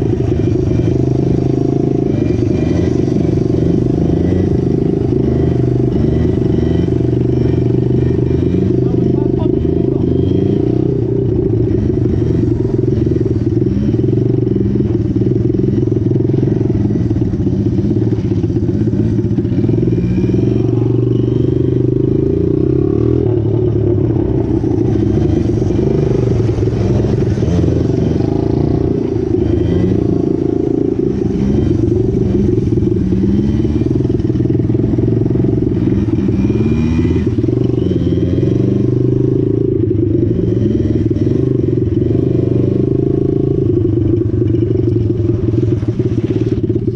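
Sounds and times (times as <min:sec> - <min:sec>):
mini bike engine revving: 0:00.0 - 0:46.9.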